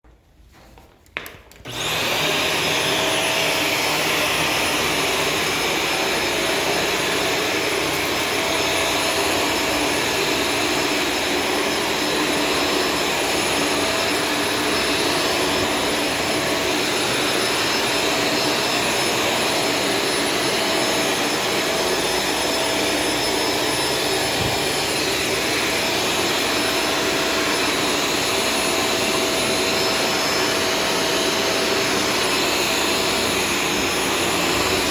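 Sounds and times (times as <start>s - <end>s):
vacuum cleaner running: 1.5s - 34.9s.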